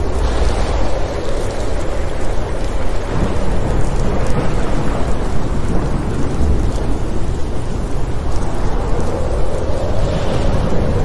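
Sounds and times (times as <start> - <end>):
low rumble of thunder: 0.0 - 11.0
steady rain: 0.0 - 11.0.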